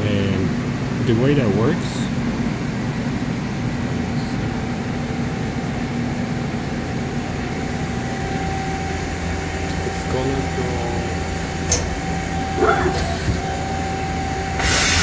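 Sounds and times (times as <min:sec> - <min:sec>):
machine shop machinery drone: 0:00.0 - 0:15.0
thin steady whine: 0:00.0 - 0:15.0.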